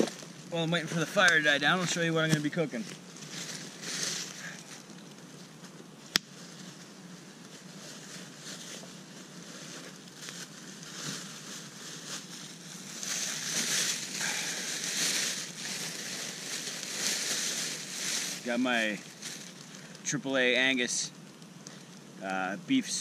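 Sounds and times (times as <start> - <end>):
plastic bag rustling: 0.0 - 5.6, 6.4 - 20.0
campfire crackling: 0.0 - 23.0
fire popping: 0.0 - 23.0.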